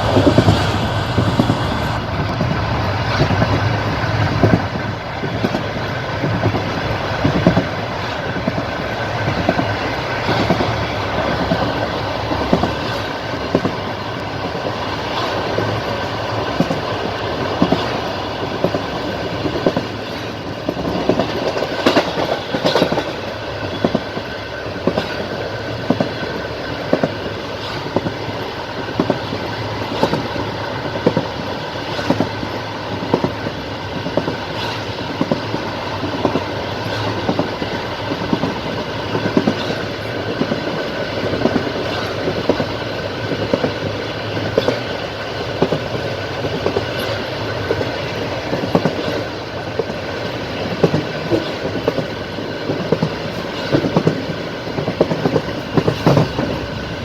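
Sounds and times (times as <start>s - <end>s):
train carriage rumble: 0.0s - 57.0s
train wheels clicking over rail joints: 0.0s - 57.0s.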